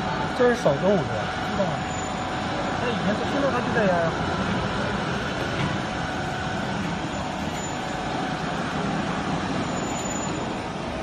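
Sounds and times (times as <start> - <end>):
waste baler machine hum: 0.0 - 11.0.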